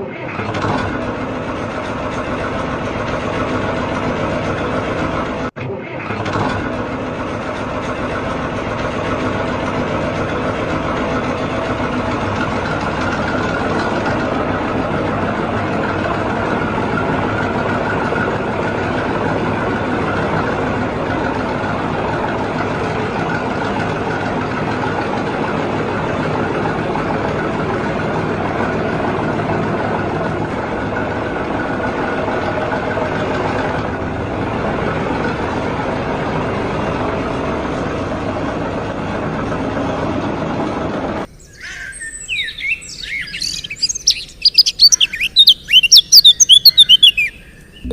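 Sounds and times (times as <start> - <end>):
tractor engine running: 0.0 - 41.4, 42.3 - 47.9.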